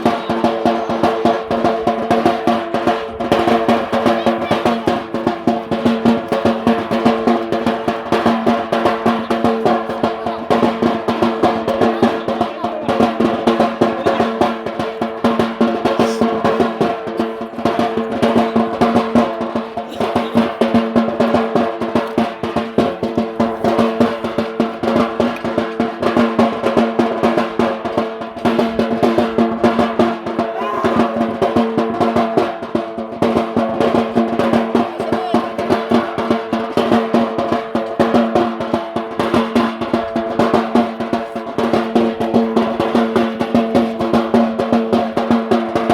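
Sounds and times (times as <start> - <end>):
fast drumming: 0.0 - 45.9.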